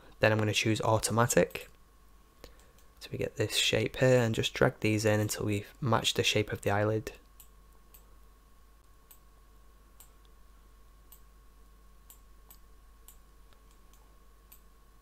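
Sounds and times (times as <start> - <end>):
faint electrical whine: 0.0 - 15.0.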